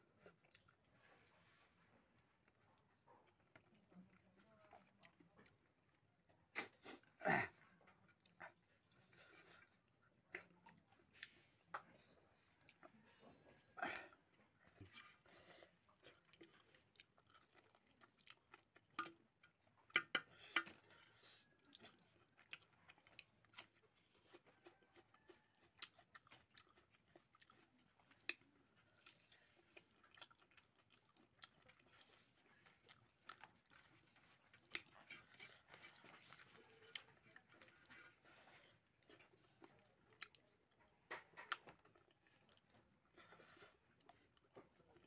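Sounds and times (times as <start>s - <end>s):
person chewing and smacking: 0.0s - 45.0s.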